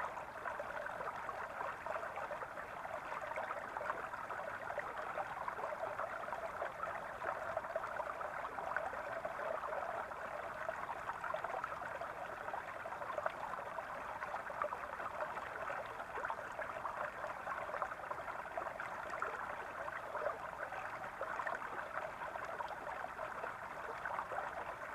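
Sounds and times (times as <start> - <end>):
brook gurgling over stones: 0.0 - 24.9.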